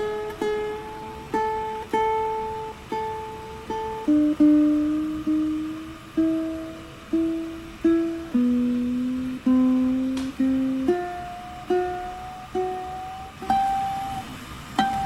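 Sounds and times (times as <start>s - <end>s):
plucked string instrument melody: 0.0s - 15.0s.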